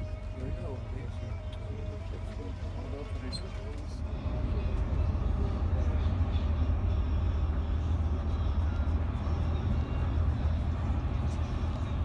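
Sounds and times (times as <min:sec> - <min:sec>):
coach engine and road rumble: 0:00.0 - 0:12.0.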